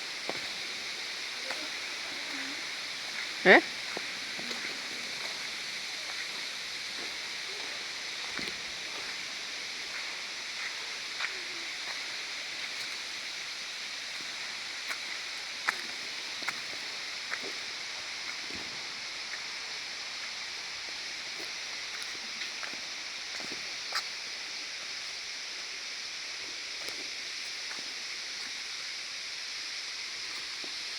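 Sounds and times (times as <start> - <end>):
waterfall hissing: 0.0 - 30.9.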